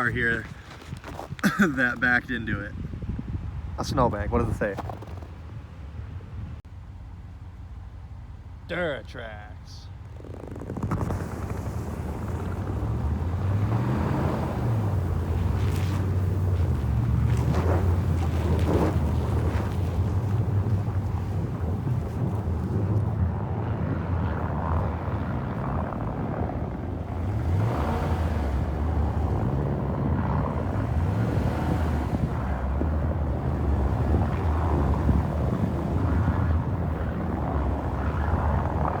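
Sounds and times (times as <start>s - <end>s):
tyre and road noise: 0.0s - 39.0s
truck engine humming: 5.2s - 39.0s.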